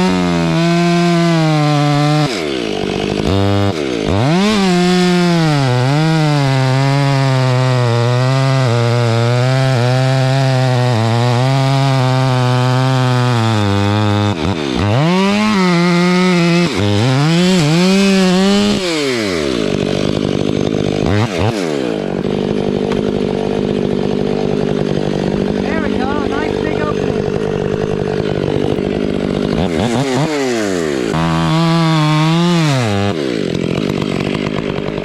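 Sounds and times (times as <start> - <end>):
chainsaw cutting wood: 0.0 - 35.0
chainsaw idling: 0.0 - 35.0.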